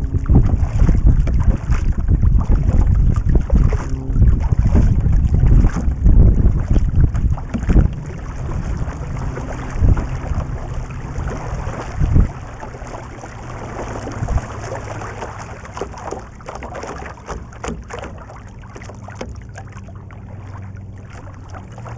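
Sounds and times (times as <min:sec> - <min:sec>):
paddle splashing and dripping: 0:00.0 - 0:21.9
wind buffeting microphone: 0:00.0 - 0:21.9.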